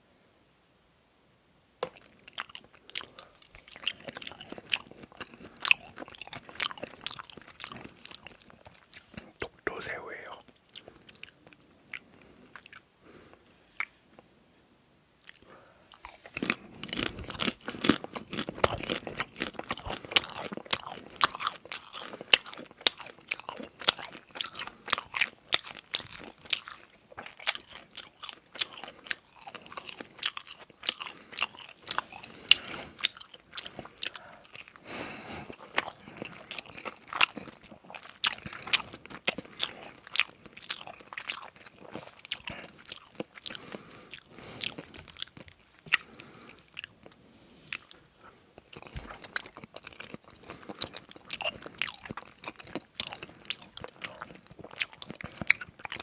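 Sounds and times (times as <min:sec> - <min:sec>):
person chewing and crunching: 0:01.8 - 0:14.3, 0:15.2 - 0:56.0.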